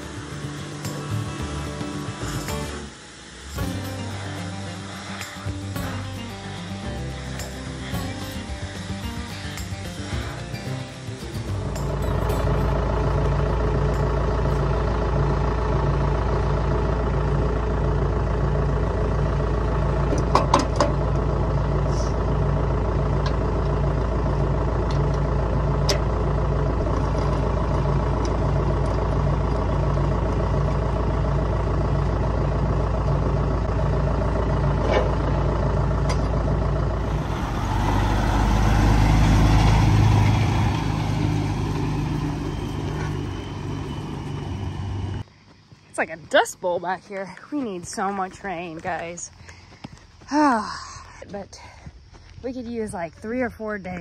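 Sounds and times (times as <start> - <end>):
diesel engine idling: 0.0 - 54.0
road noise: 0.0 - 54.0
truck diesel engine: 0.0 - 54.0.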